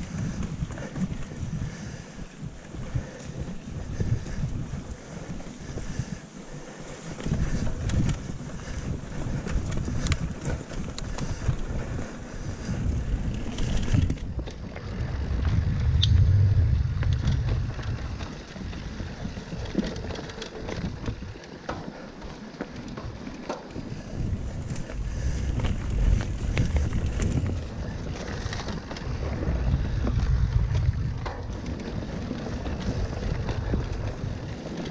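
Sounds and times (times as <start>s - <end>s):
wind buffeting microphone: 0.0s - 6.3s, 7.0s - 21.4s, 23.0s - 34.9s
bike rattles and clicks: 0.0s - 34.9s
tyres rolling on dirt: 0.0s - 34.9s.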